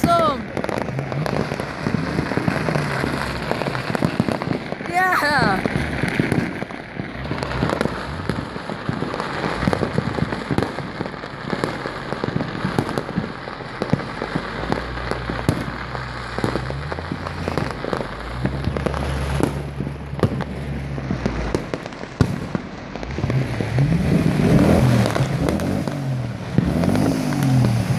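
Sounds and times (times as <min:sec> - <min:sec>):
distant fireworks bangs and crackles: 0:00.0 - 0:27.9
engine revving: 0:00.6 - 0:04.5, 0:05.6 - 0:12.8, 0:14.2 - 0:21.8, 0:22.9 - 0:27.9.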